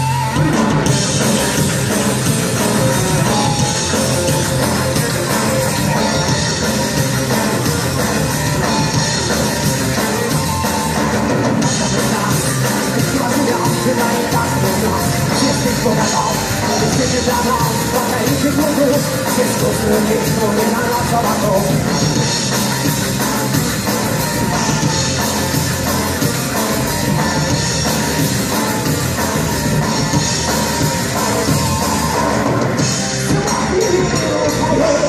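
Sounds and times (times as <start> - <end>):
drum kit: 0.0 - 35.0
electric guitars: 0.0 - 35.0.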